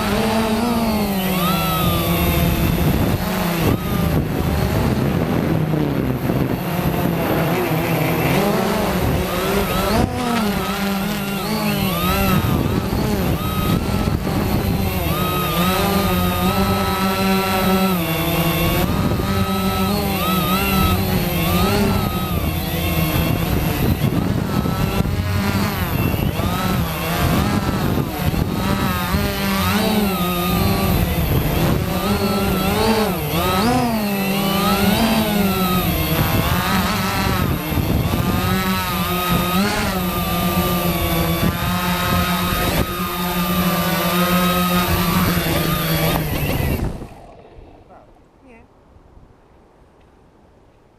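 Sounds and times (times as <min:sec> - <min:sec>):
drone propellers whining: 0:00.0 - 0:48.1.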